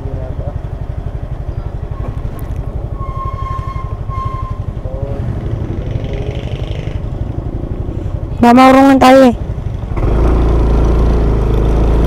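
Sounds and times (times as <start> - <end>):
scooter engine running: 0.0 - 3.0, 4.6 - 8.6, 9.3 - 12.0.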